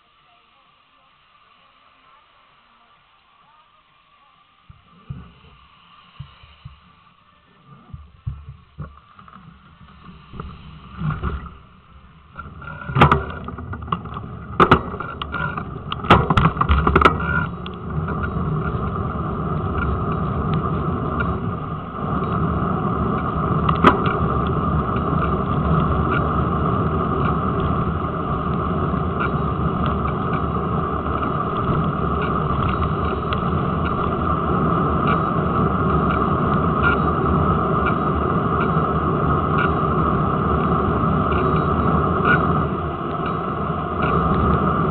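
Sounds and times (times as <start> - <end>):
bicycle tyres rolling on tarmac: 0.0 - 44.9
bicycle rattling over bumps: 7.7 - 44.9.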